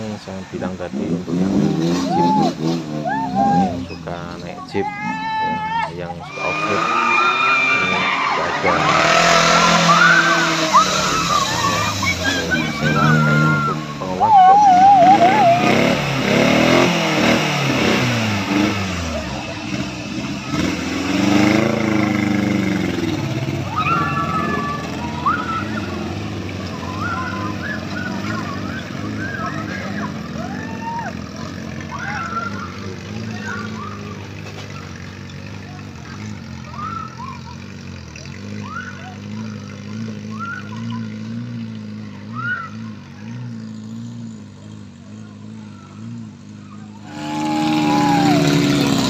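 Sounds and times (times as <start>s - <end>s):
jeep engines revving: 0.0s - 49.0s.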